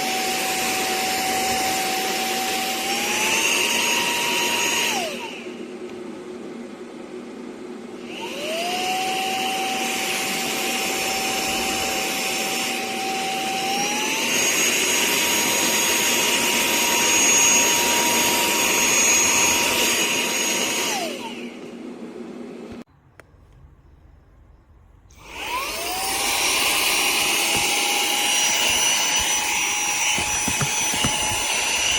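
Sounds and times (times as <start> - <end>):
handheld vacuum motor whine: 0.0 - 7.0, 7.6 - 22.3, 25.1 - 31.9.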